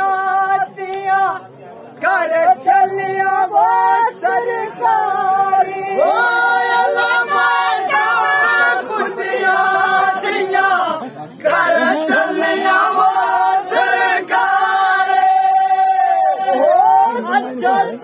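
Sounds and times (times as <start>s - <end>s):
men singing folk song together: 2.0s - 18.0s.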